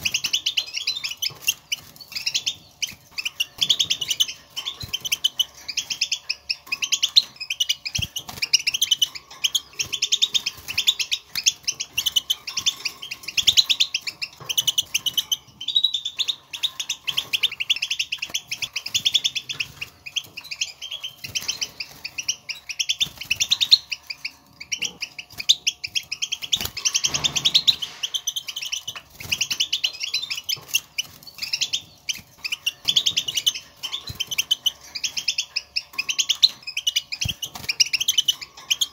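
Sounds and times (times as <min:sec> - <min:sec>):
goldfinches twittering: 0:00.0 - 0:38.9.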